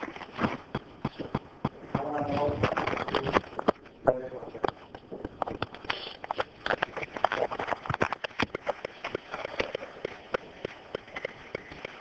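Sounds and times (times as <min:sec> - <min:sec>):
rustling against microphone: 0:00.0 - 0:12.0.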